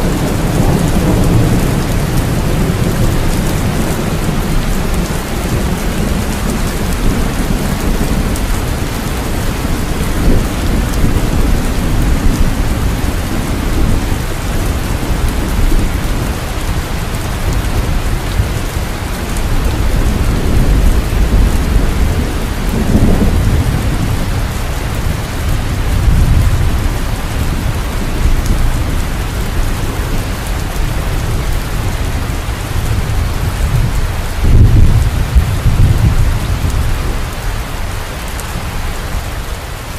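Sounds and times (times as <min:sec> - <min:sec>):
rolling thunder: 0:00.0 - 0:39.4
heavy rain falling: 0:00.0 - 0:39.9.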